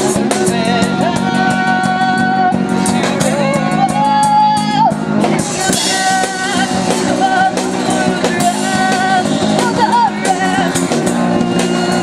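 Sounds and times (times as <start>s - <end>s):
drums: 0.0s - 12.0s
guitar: 0.0s - 12.0s
person singing: 0.0s - 12.0s.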